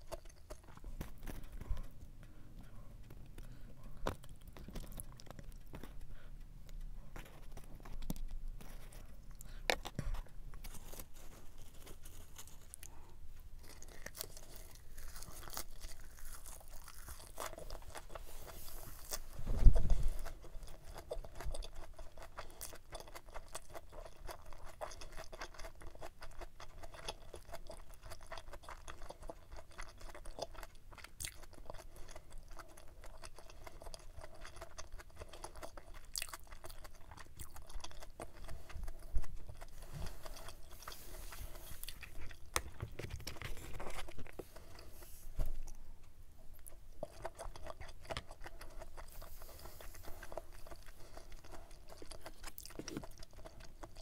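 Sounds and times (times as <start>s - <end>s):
close chewing crunches: 0.0s - 45.8s, 46.5s - 54.0s.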